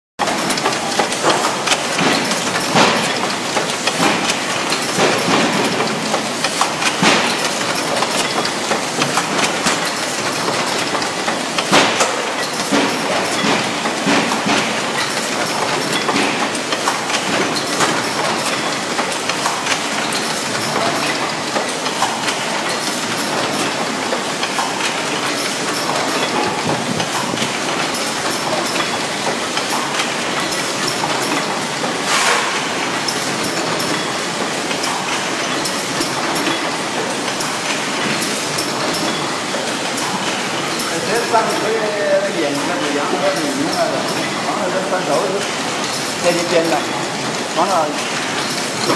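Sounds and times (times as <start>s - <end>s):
machine clattering: 0.2s - 48.9s.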